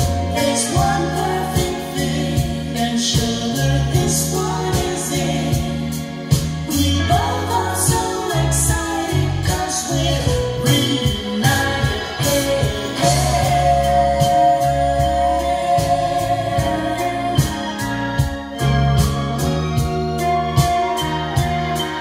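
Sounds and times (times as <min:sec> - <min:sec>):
pop song with singing: 0:00.0 - 0:22.0.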